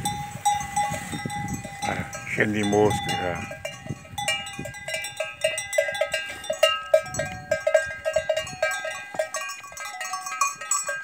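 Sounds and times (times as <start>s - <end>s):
cowbells clanking: 0.0s - 11.0s.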